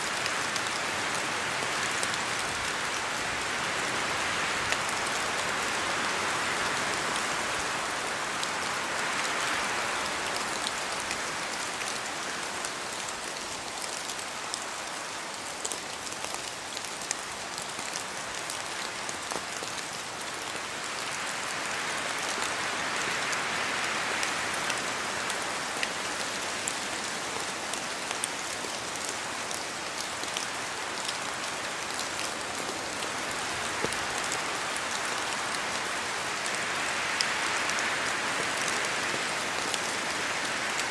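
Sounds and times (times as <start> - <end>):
rain falling on trees: 0.0 - 40.9.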